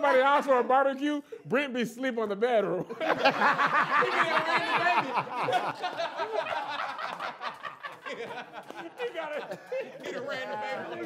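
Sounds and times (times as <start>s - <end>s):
group of people laughing: 0.0s - 0.8s, 2.8s - 11.0s.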